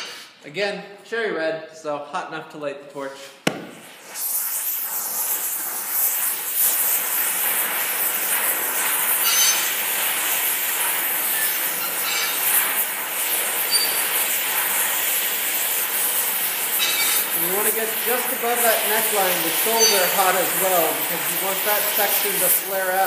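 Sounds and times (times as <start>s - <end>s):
torch flame hissing: 3.5s - 23.0s.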